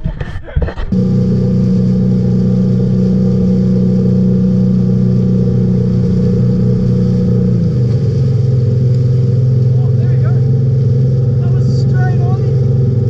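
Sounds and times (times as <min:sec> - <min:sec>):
boat engine droning: 0:00.9 - 0:13.0.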